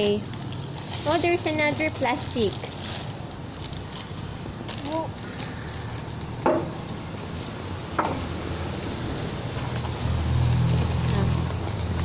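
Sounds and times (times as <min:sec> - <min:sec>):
plastic packaging crinkling: 0:00.0 - 0:07.6, 0:09.6 - 0:12.0.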